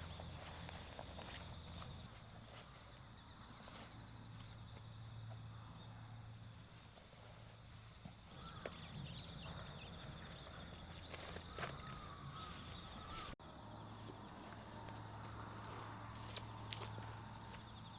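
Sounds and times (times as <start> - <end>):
night insects trilling: 0.0 - 17.9.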